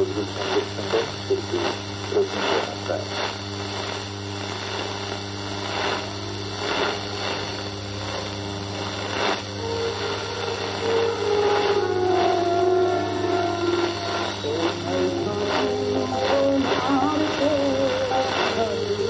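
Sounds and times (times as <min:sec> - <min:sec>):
radio static: 0:00.0 - 0:19.0
steady hum: 0:00.0 - 0:19.0.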